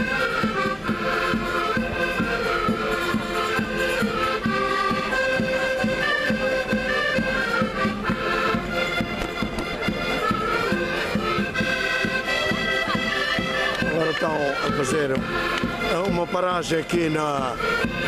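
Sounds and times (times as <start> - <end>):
reed melody: 0.0 - 18.0.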